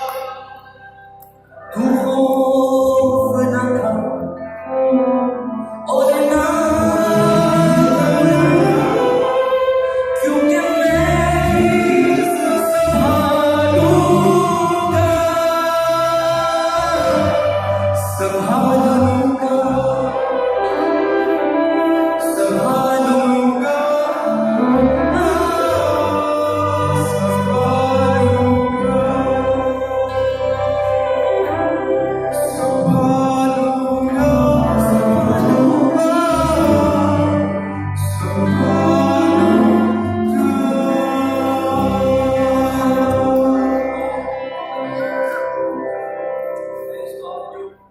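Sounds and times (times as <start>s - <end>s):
steady bass line: 0.0s - 23.2s, 24.3s - 47.8s
singers with band: 0.0s - 47.9s.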